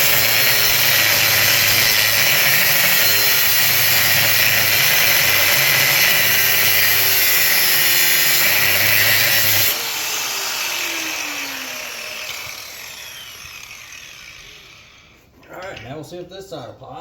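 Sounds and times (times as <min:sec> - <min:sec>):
falling whine of tool winding down: 0:00.0 - 0:15.3
power tool cutting metal: 0:00.0 - 0:15.3.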